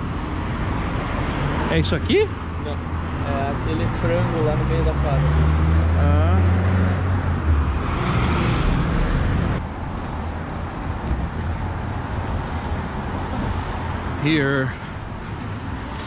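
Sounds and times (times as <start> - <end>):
road noise: 0.0 - 16.0
vehicle engines humming: 0.0 - 16.0.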